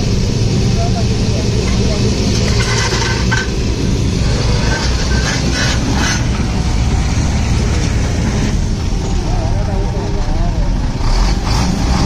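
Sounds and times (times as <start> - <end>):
vehicle rumble with road noise: 0.0 - 12.0.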